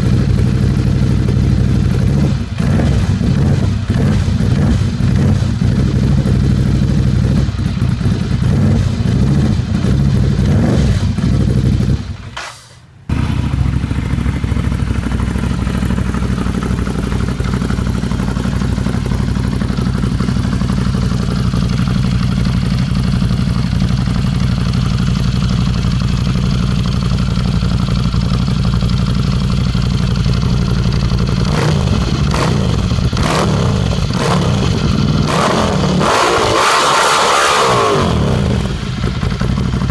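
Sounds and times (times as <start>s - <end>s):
motorcycle engine running: 0.0s - 12.3s, 13.1s - 39.9s.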